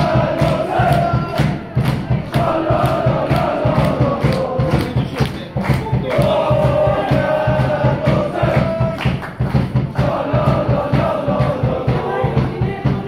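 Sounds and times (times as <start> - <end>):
crowd singing a chant: 0.0 - 13.0
drum beating steadily: 0.0 - 13.0.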